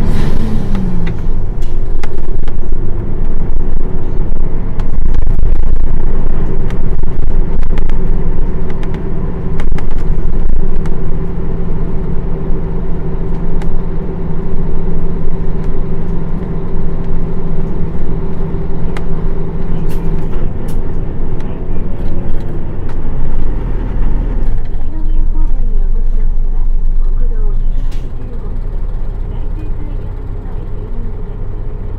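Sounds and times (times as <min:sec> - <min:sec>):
bus diesel engine: 0:00.0 - 0:31.9.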